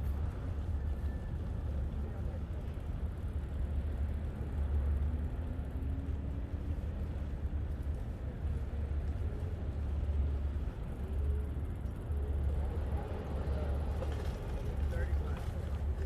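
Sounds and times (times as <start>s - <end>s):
wind and bicycle riding noise: 0.0s - 16.0s.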